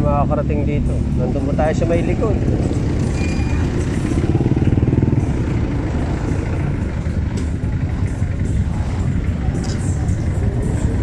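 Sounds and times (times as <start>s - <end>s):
close engine rapid pulsing: 0.0s - 11.0s
motorcycle engines in traffic: 0.0s - 11.0s.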